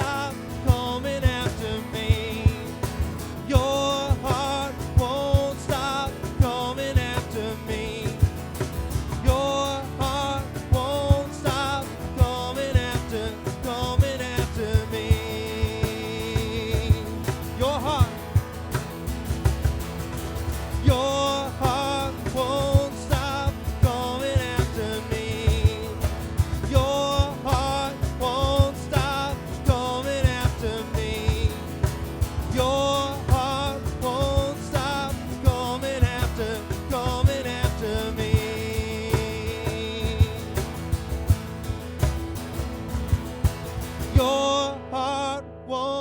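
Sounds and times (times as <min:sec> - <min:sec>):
drum beat: 0:00.0 - 0:44.3.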